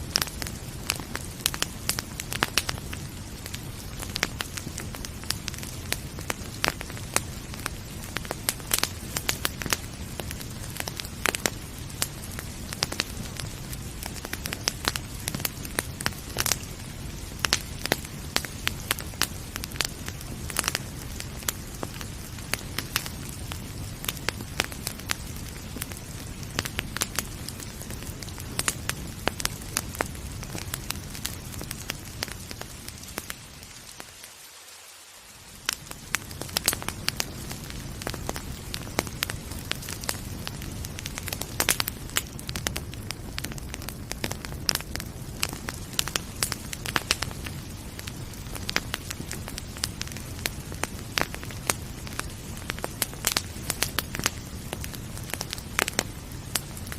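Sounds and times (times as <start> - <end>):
rain hissing: 0.0 - 56.9
wood fire crackling: 0.0 - 56.9.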